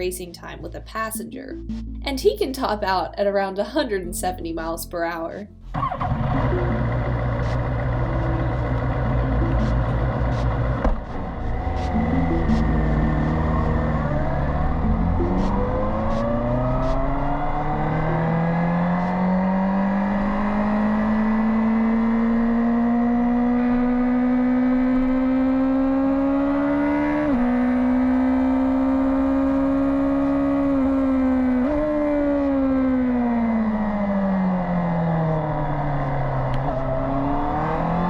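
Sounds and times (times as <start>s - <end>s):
motorcycle engine accelerating: 5.7s - 38.0s.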